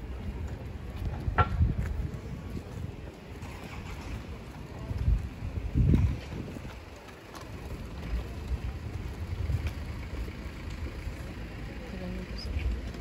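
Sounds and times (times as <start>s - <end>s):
faint voices: 0.0s - 13.0s
traffic rumble: 0.0s - 13.0s
wind rumble: 0.0s - 13.0s.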